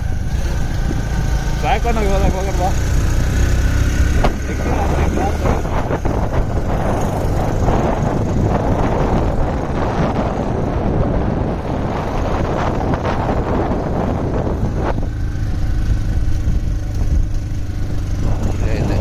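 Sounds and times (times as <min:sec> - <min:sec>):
motorcycle engine: 0:00.0 - 0:19.0
wind buffeting microphone: 0:00.0 - 0:19.0.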